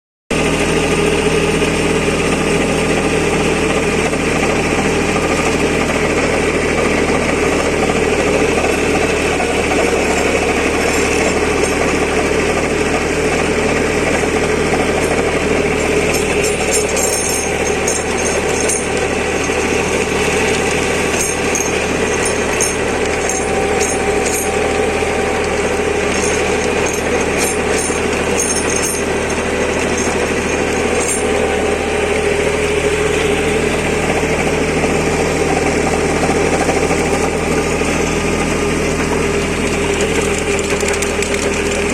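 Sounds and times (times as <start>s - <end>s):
tractor diesel engine running: 0.3s - 41.9s.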